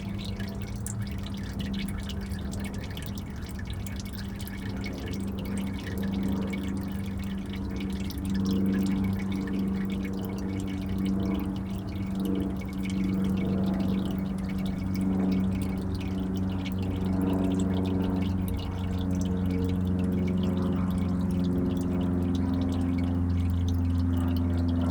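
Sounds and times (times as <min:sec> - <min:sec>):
oil pouring into a pan: 0:00.0 - 0:24.0.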